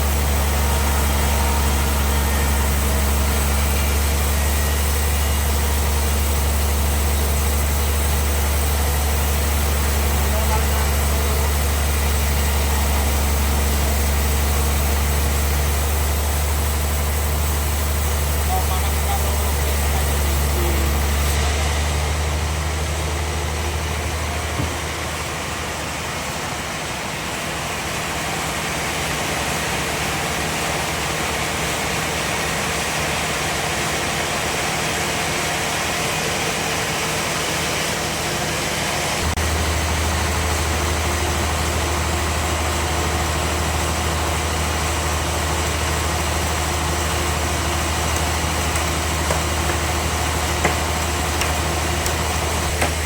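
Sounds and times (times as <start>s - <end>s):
band saw machinery drone: 0.0s - 53.0s.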